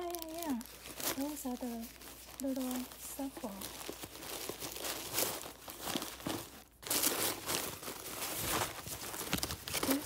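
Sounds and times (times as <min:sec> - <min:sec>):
tissue paper crinkling and rustling: 0:00.0 - 0:10.0.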